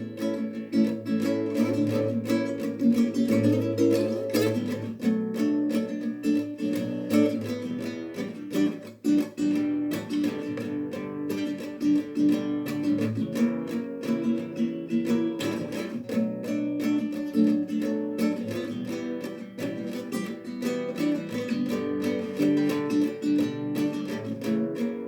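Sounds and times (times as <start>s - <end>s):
acoustic guitar plucked and strummed: 0.0s - 25.0s.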